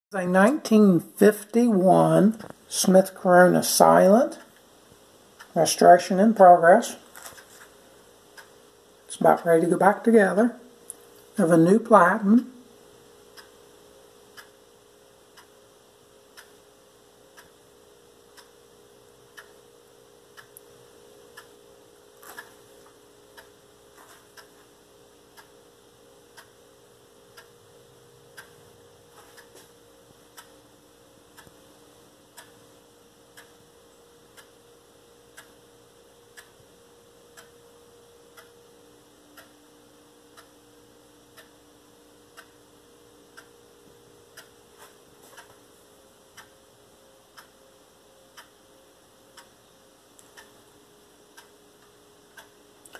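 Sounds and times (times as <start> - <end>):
steady low hum: 0.1 - 52.9
faint regular ticking: 0.4 - 52.9.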